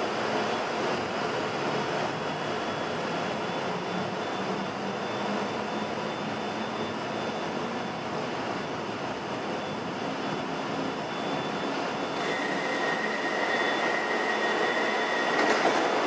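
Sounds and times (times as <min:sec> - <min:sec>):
faint high whine: 0:00.0 - 0:16.0
standing train hum and rushing: 0:00.0 - 0:16.0.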